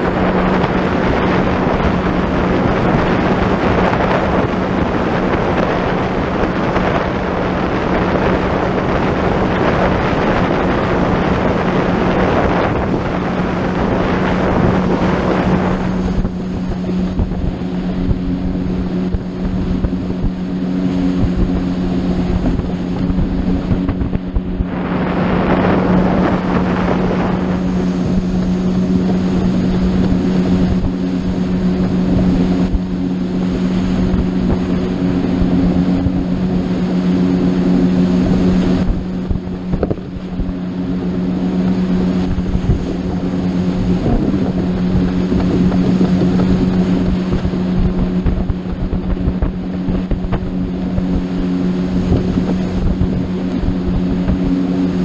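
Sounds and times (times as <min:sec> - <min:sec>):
boat engine humming: 0:00.0 - 0:55.0
water rushing past: 0:00.0 - 0:55.0
wind buffeting microphone: 0:00.0 - 0:55.0.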